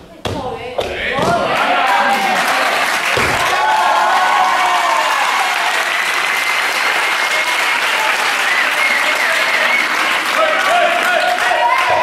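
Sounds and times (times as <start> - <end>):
audience applauding: 1.5 - 12.0.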